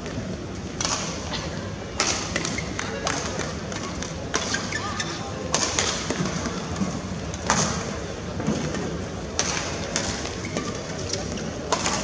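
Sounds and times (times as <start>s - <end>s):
crowd murmur in a hall: 0.0s - 12.0s.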